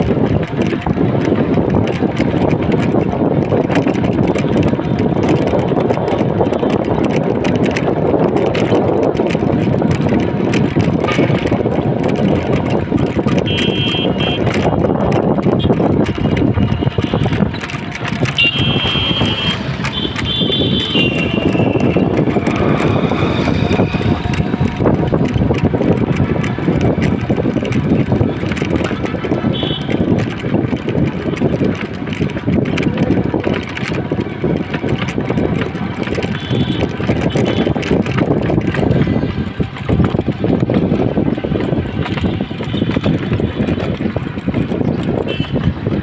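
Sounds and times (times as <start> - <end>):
frame and wheels rattling: 0.0 - 46.0
passing traffic: 0.0 - 46.0
rickshaw rumbling on pavement: 0.0 - 46.0
wind on microphone: 0.0 - 46.0.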